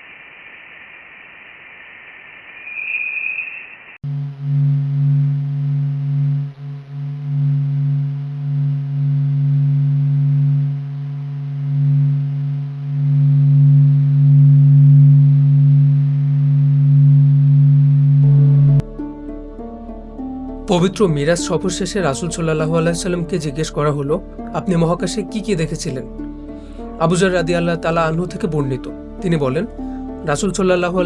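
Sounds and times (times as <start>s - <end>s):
low droning hum: 4.0s - 31.0s.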